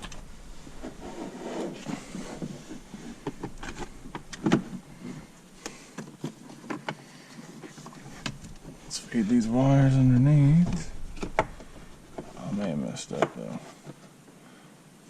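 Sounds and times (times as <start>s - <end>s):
rustling: 0.0s - 14.2s.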